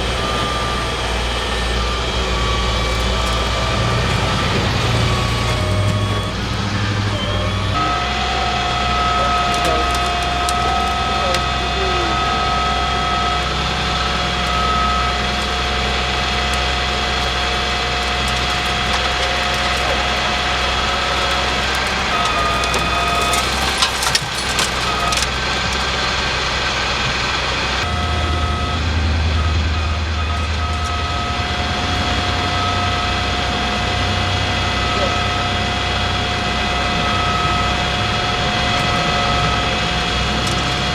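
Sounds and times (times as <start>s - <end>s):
engine whine: 0.0s - 40.9s
truck engines idling: 0.0s - 40.9s.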